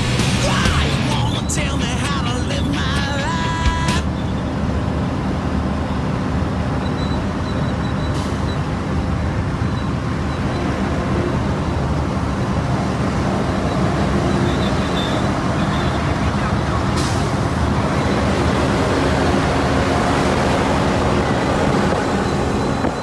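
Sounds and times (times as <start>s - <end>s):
truck engine low rumble: 0.0s - 23.0s.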